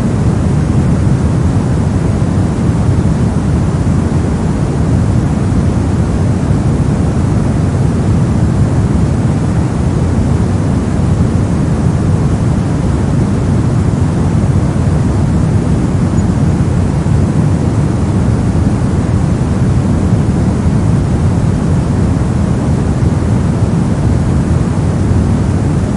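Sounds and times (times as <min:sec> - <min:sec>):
deep white noise rush: 0:00.0 - 0:25.9.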